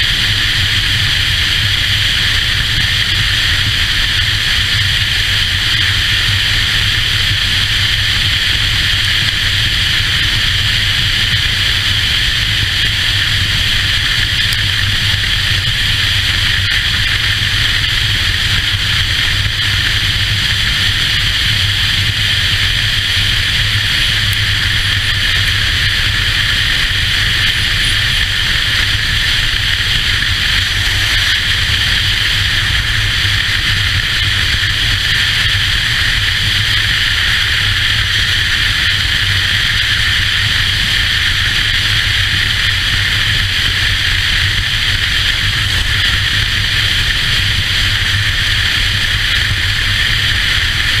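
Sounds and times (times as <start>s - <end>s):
motorcycle engine drone: 0.0s - 51.0s.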